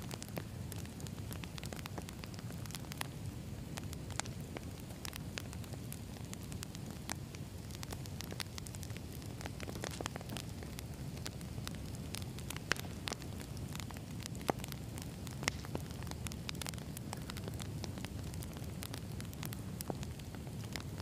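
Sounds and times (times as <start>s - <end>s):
fire crackling and popping: 0.0s - 21.0s
wood fire rumbling: 0.1s - 21.0s.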